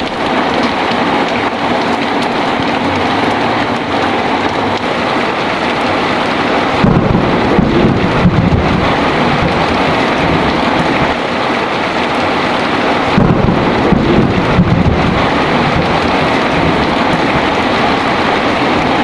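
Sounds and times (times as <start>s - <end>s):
heavy rain falling: 0.0s - 19.0s
thunder rumbling: 0.0s - 19.0s.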